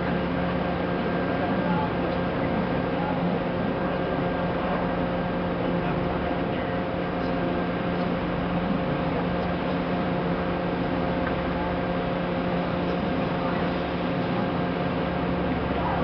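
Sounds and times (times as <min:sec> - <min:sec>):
boat engines humming: 0:00.0 - 0:16.0.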